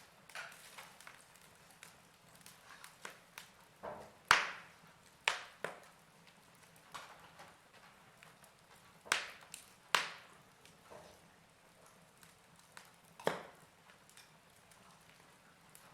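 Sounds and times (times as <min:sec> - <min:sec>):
fireplace fire crackling: 0:00.0 - 0:15.9.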